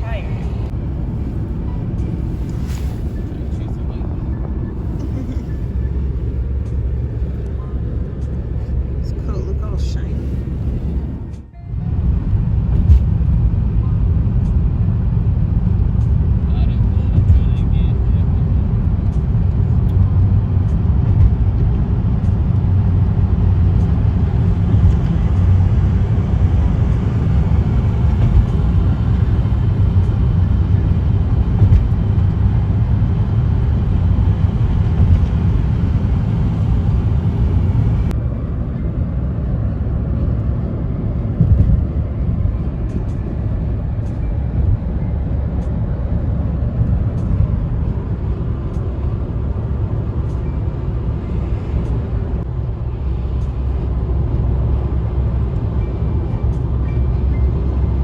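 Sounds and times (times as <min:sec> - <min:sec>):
car driving road noise: 0:00.0 - 0:58.0.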